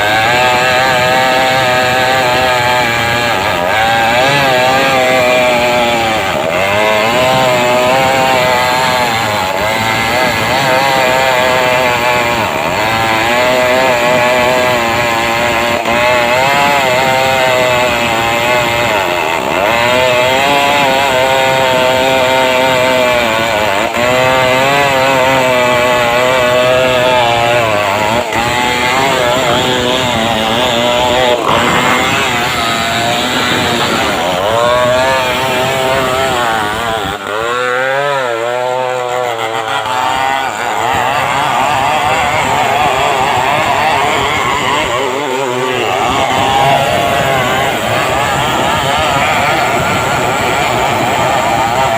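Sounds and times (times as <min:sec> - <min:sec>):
chainsaw ripping a log: 0:00.0 - 0:51.9.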